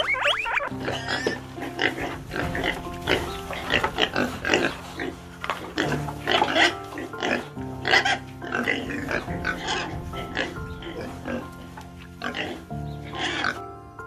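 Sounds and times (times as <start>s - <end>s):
pig grunting calls: 0.0s - 13.7s
background music with held notes: 0.0s - 14.0s.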